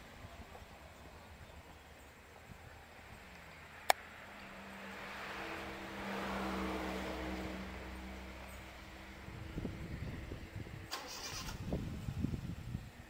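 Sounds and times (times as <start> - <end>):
car passing: 0.0 - 12.8.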